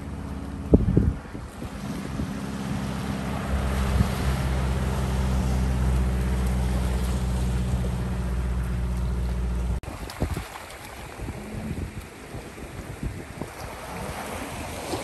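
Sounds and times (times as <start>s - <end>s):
motorboat engine droning: 0.0s - 15.0s
rushing water: 0.0s - 15.0s
wind: 0.0s - 15.0s.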